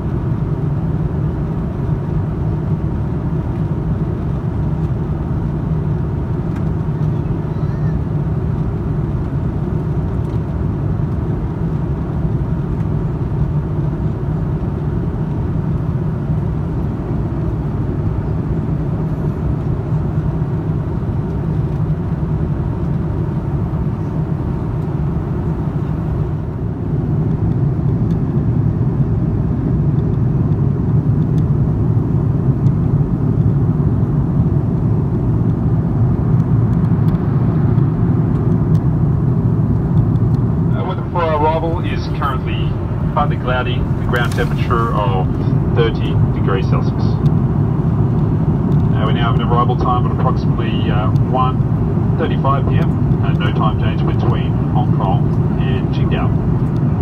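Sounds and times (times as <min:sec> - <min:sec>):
aircraft cabin engine and airflow rumble: 0:00.0 - 0:57.0.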